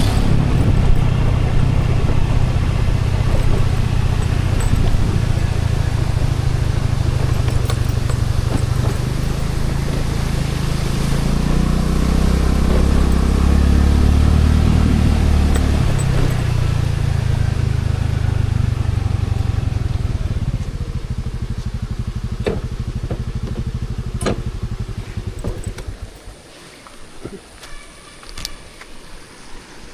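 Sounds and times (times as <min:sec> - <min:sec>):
scooter engine running: 0:00.0 - 0:28.5.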